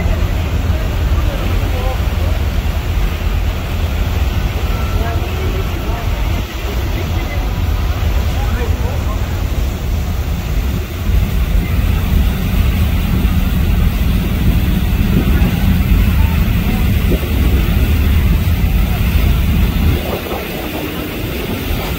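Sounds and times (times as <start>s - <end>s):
churning wake: 0.0s - 21.9s
ferry engine drone: 0.0s - 21.9s
wind buffeting microphone: 0.0s - 21.9s.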